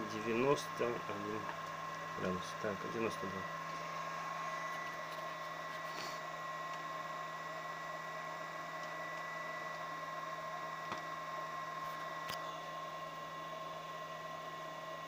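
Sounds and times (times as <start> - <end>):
steady high whine: 0.0 - 15.0.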